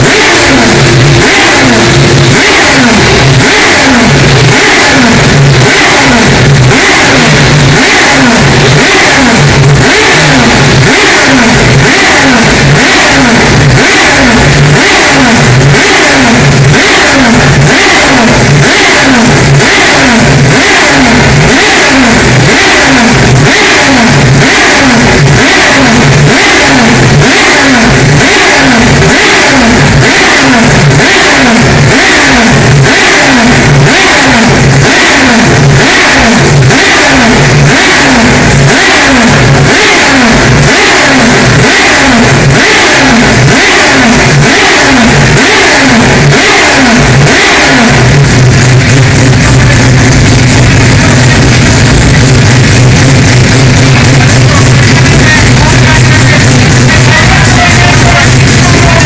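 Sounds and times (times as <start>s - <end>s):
rotary engine revving: 0.0s - 59.0s.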